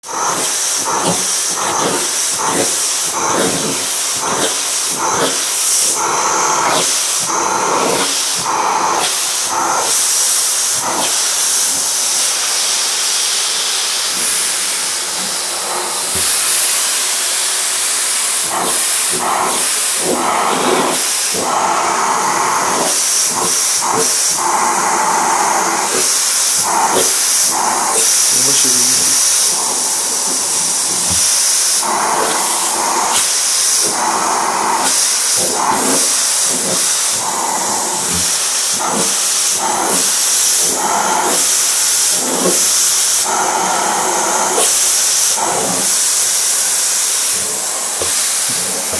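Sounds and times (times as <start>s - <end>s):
vacuum cleaner rushing air: 0.0s - 48.9s.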